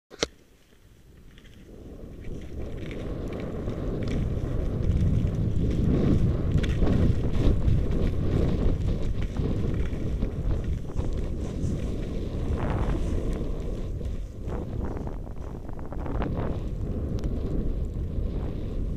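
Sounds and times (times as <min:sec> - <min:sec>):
skis scraping on snow: 0:00.6 - 0:18.9
wind buffeting microphone: 0:00.8 - 0:18.9.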